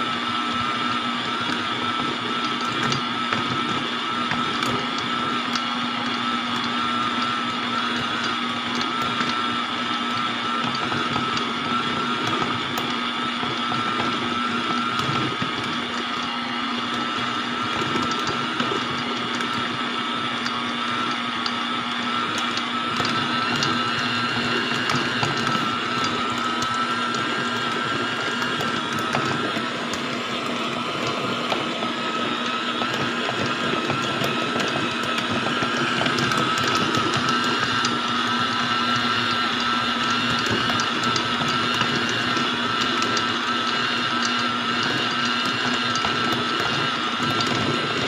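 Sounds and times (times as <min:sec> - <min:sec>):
stand mixer motor whining: 0:00.0 - 0:48.0.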